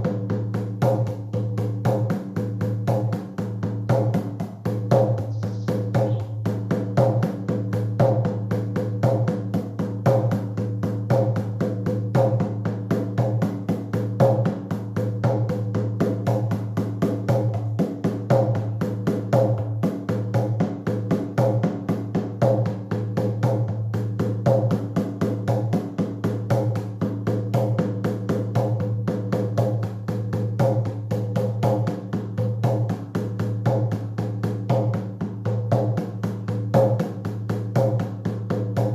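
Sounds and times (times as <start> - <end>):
drum beaten fast: 0.0 - 38.9.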